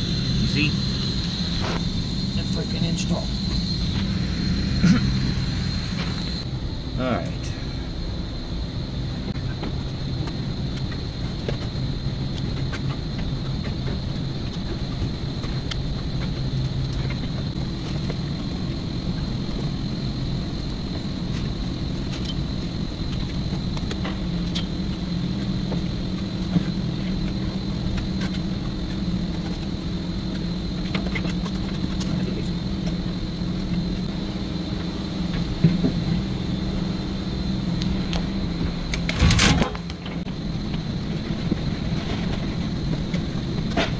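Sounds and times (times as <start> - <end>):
low mechanical hum: 0.0 - 43.9
thin high whine: 0.0 - 43.9.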